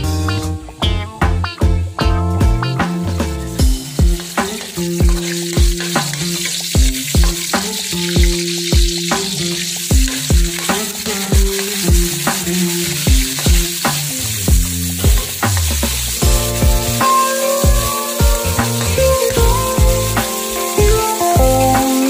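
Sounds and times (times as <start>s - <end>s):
background music with beat: 0.0s - 22.0s
vegetables sizzling in a wok: 2.6s - 22.0s
metal spatula stirring: 3.8s - 22.0s.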